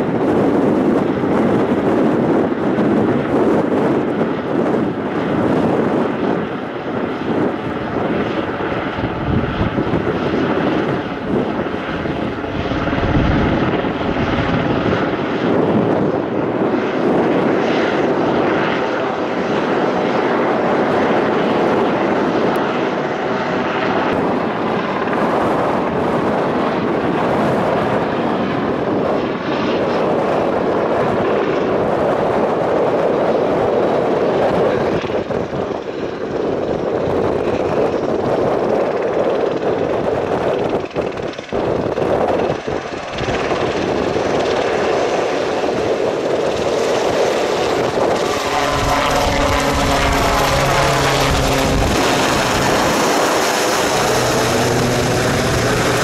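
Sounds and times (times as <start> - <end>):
helicopter passing: 0.0 - 56.0.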